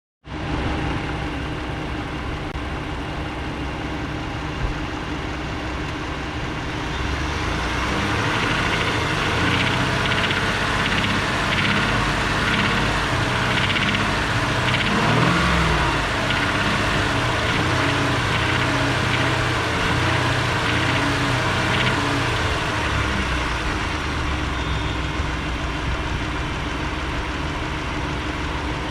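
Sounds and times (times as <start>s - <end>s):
car engine running: 0.3s - 28.9s
engine knocking: 2.7s - 28.9s.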